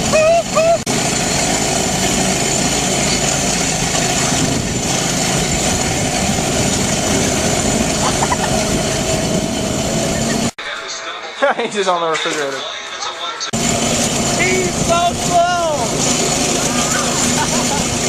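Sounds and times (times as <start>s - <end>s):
small go-kart engine running: 0.0s - 10.5s, 13.6s - 18.0s.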